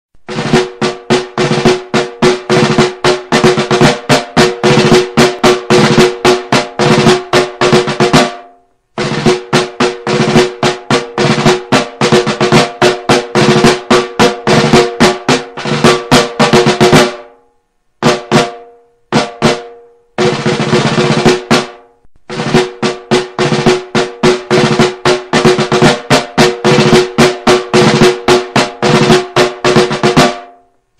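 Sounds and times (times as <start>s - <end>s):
marching snare drum: 0.2s - 17.4s, 18.0s - 30.6s.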